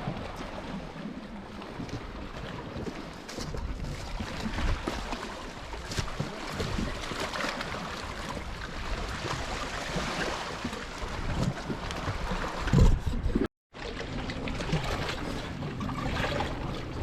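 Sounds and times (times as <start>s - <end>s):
sea washing at shoreline: 0.0s - 17.0s
wind: 0.0s - 17.0s.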